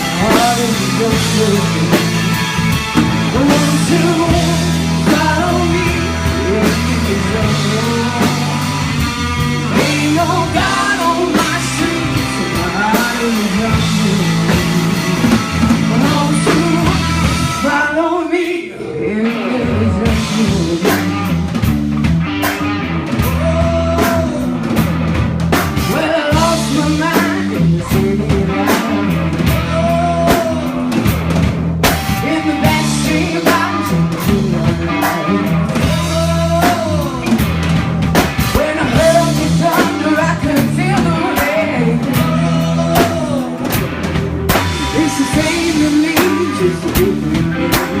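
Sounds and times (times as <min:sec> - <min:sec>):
drums beating: 0:00.0 - 0:17.8, 0:20.0 - 0:48.0
rock band playing: 0:00.0 - 0:48.0.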